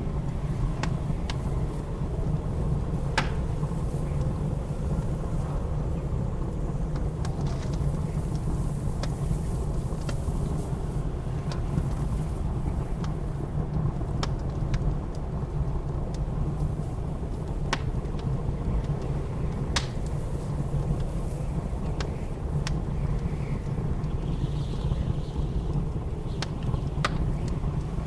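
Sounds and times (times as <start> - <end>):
blizzard wind rumbling: 0.0 - 28.0
wood fire crackling: 0.0 - 28.0.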